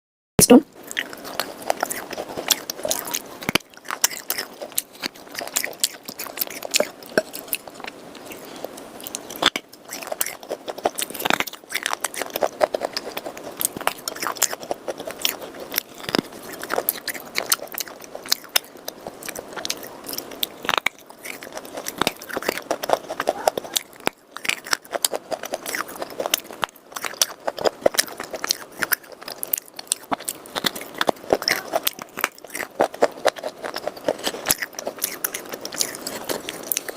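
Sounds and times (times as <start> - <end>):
crunching and chewing clay: 0.7 - 36.9.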